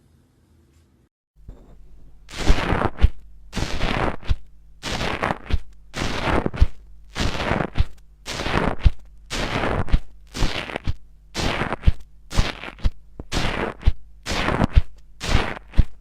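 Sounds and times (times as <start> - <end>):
crunchy slime crackling and popping: 2.2 - 16.0.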